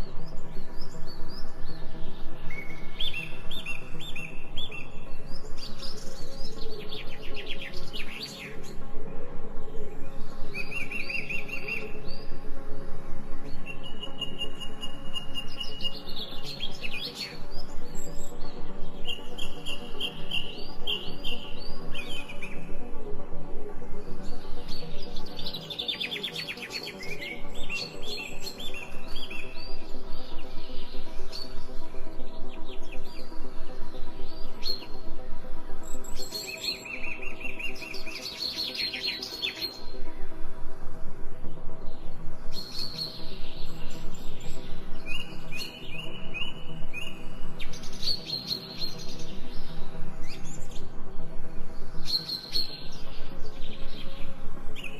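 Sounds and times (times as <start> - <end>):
low musical drone: 0.0 - 54.9
songbirds chirping: 0.0 - 54.9.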